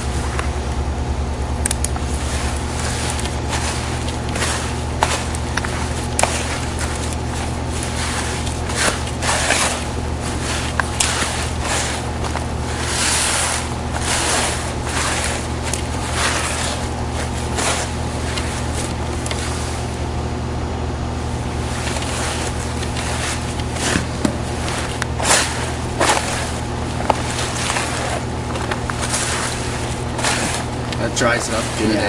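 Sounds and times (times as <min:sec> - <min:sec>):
rhythmic swishing and scraping: 0:00.0 - 0:20.0, 0:21.2 - 0:32.0
low engine drone: 0:00.0 - 0:32.0.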